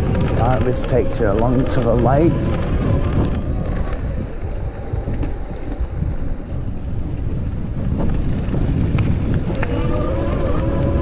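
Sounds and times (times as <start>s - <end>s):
tyres rolling on dirt path: 0.0s - 11.0s
wind buffeting microphone: 0.0s - 11.0s.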